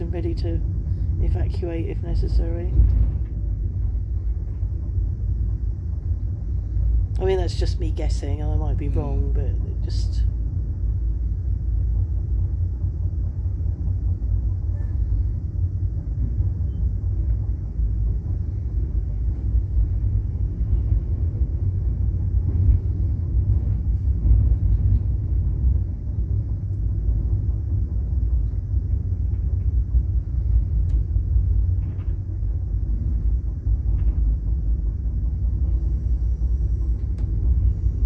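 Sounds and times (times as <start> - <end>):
train rumble inside carriage: 0.0 - 38.0.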